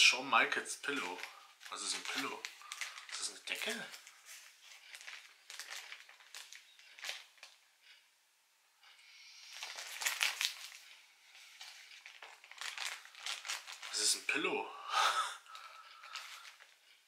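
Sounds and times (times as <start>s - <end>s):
plastic wrapping crinkling: 0.0s - 8.0s, 9.3s - 14.4s, 15.4s - 17.0s.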